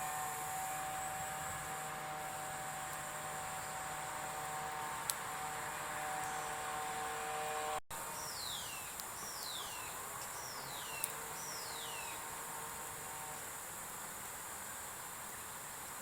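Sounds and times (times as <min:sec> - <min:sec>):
insects chirring: 0:00.0 - 0:05.4, 0:08.0 - 0:16.0
steady hum: 0:00.0 - 0:16.0.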